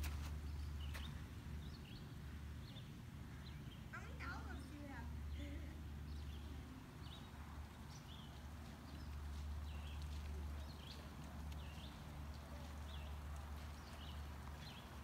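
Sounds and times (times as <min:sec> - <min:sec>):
bird chirping: 0:00.4 - 0:05.4, 0:06.0 - 0:15.0.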